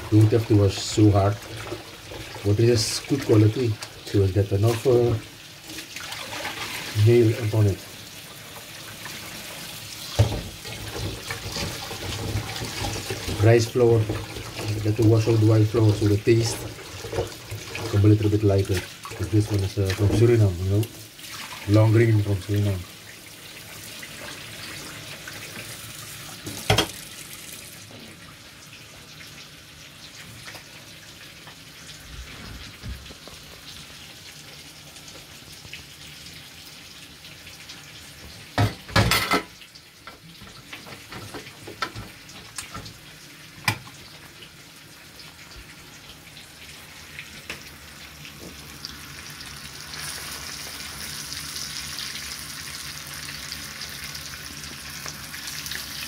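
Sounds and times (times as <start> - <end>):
meat sizzling in a frying pan: 0.0 - 56.0
tap water running into metal pan: 0.0 - 56.0.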